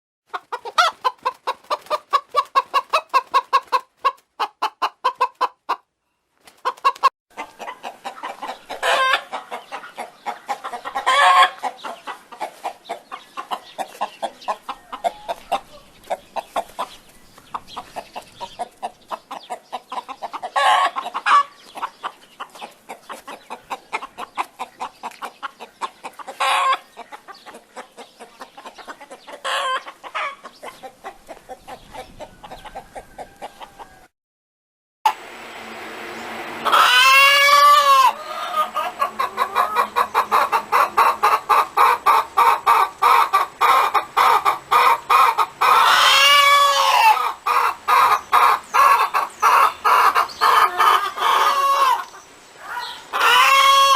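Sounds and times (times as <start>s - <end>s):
hen cackling: 0.3s - 5.9s, 6.6s - 16.8s, 18.4s - 34.1s, 36.6s - 53.9s
hen clucking: 0.3s - 5.9s, 6.5s - 34.0s, 36.6s - 53.9s.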